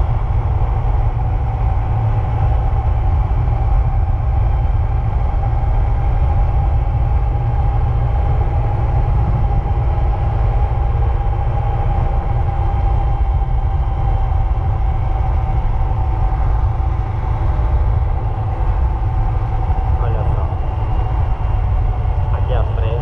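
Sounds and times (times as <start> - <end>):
steady whine: 0.0 - 23.0
vehicle road rumble: 0.0 - 23.0.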